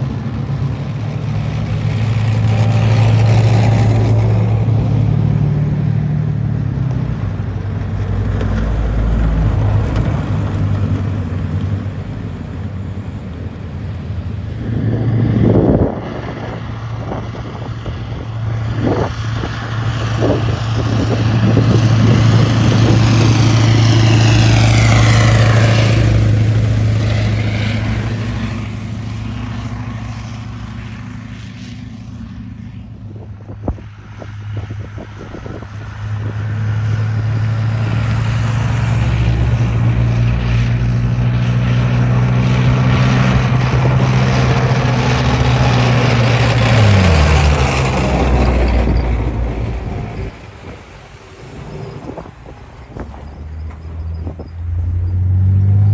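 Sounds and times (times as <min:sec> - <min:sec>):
diesel engine drone: 0:00.0 - 0:55.9
falling whine of passing vehicle: 0:00.0 - 0:55.9.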